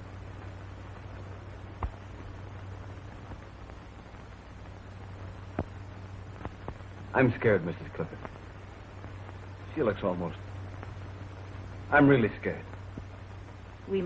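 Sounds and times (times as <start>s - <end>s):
film soundtrack hum and hiss: 0.0s - 14.0s.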